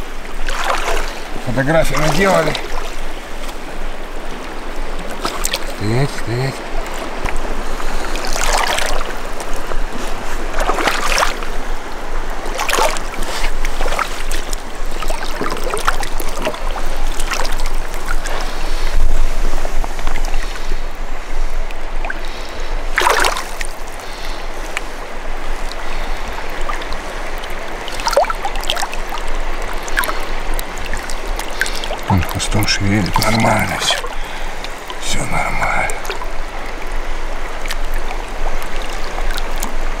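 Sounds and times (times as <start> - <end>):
river flowing around hands: 0.0 - 40.0
water splashes: 0.0 - 40.0.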